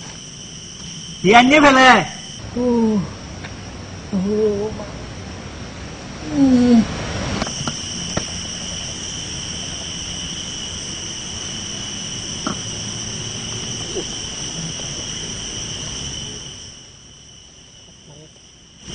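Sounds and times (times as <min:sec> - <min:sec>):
high-pitched insect drone: 0:00.0 - 0:05.2, 0:06.2 - 0:18.9.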